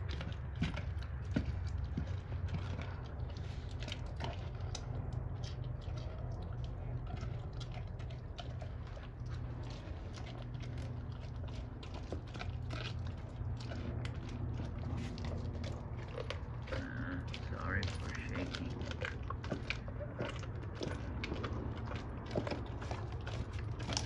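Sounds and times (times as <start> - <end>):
dog chewing bone: 0.0 - 24.0
steady low hum: 0.0 - 24.0.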